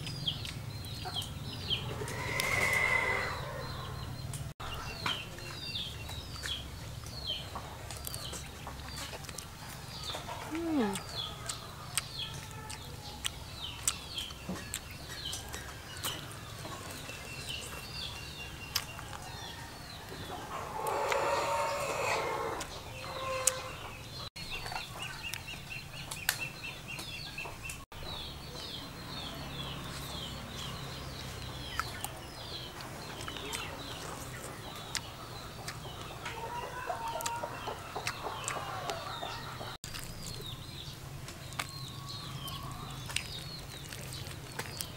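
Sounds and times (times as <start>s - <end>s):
chickens clucking: 0.0s - 39.8s
small birds chirping: 0.0s - 44.9s.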